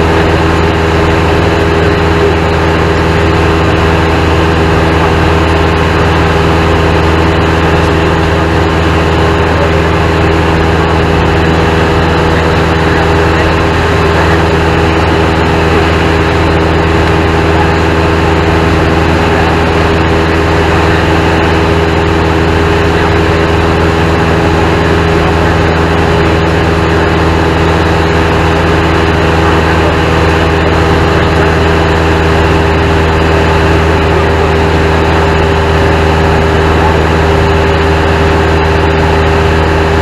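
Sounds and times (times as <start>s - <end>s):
airplane engine drone: 0.0s - 40.0s.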